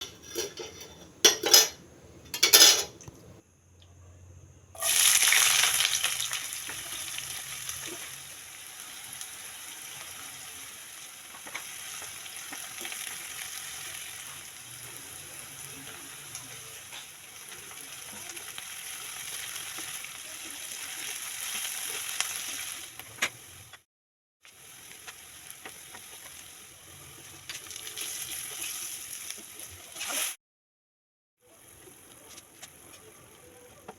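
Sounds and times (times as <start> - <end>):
chicken sizzling in a pan: 4.8 - 23.8, 24.4 - 30.4, 31.4 - 33.9.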